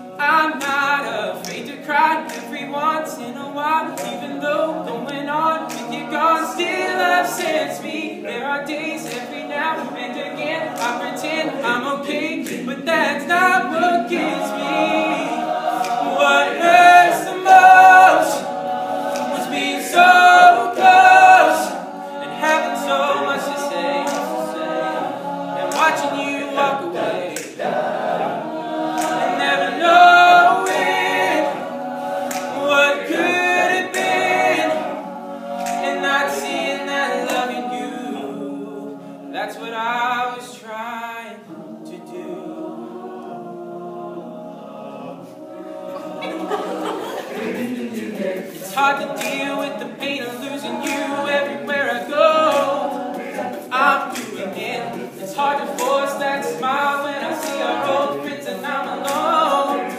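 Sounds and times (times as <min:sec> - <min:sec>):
male group singing backing chords: 0:00.0 - 0:59.9.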